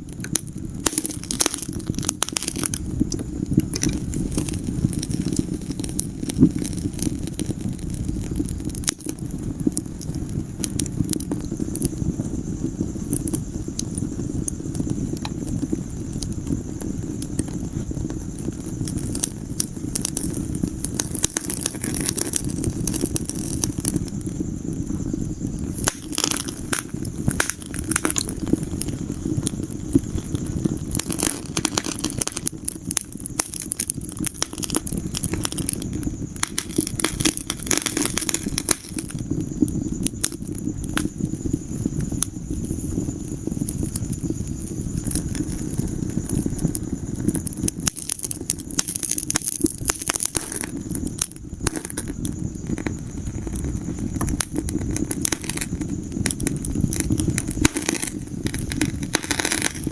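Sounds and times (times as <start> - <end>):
fire rumbling: 0.0 - 59.9
wood fire crackling and popping: 0.0 - 59.9.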